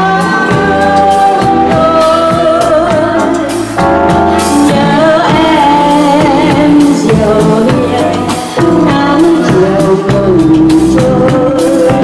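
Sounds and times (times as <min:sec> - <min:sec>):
instrumental backing: 0:00.0 - 0:12.0
woman singing into a microphone: 0:00.0 - 0:12.0.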